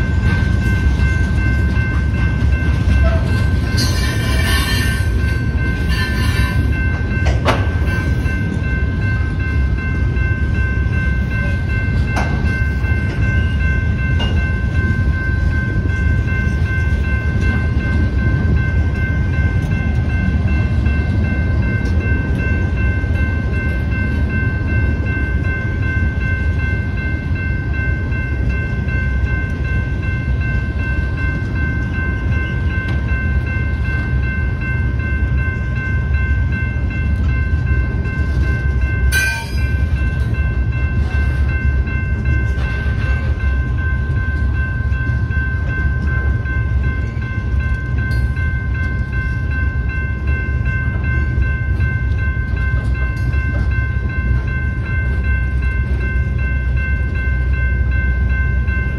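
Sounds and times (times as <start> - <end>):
freight train rumbling on rails: 0.0 - 58.9
high ringing of rails: 0.0 - 58.9.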